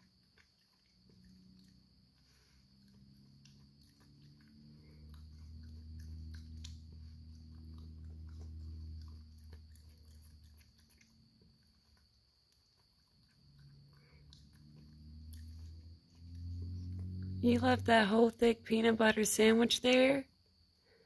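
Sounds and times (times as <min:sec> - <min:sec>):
raccoon chewing wetly: 0:00.0 - 0:18.8
low hum: 0:00.0 - 0:20.0.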